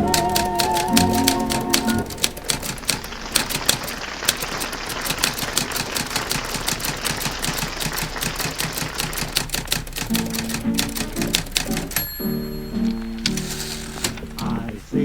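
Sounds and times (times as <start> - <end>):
typewriter keys clacking: 0.0 - 15.0.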